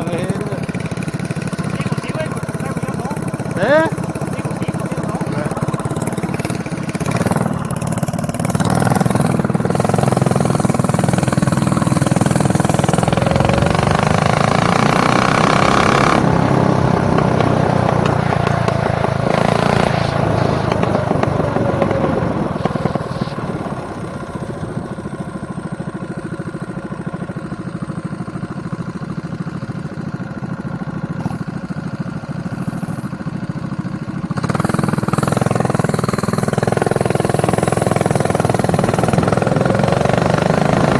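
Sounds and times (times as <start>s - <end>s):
mini bike engine running: 0.0s - 40.9s.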